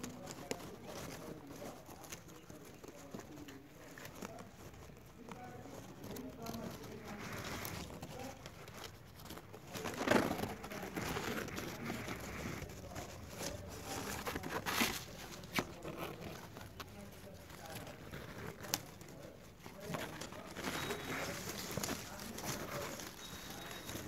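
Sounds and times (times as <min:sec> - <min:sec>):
rustling and crackling: 0:00.0 - 0:24.0.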